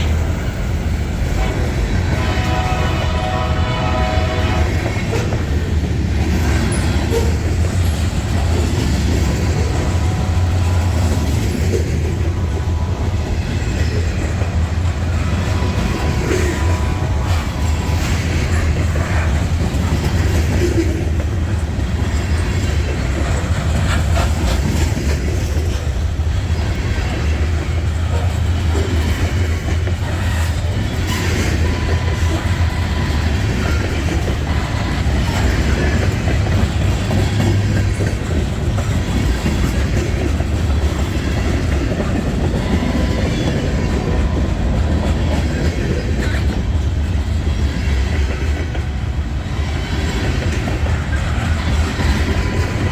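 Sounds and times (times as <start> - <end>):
freight train rumbling past: 0.0 - 52.9
wheels clicking over rail joints: 0.0 - 52.9.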